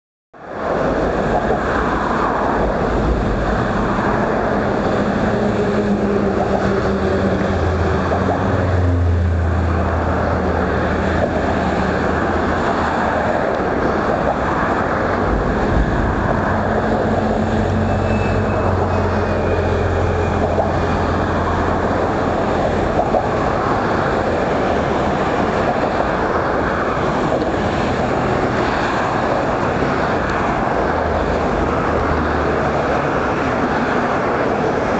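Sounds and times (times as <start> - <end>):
road traffic rushing: 0.4 - 34.9
low engine hum: 0.9 - 34.8.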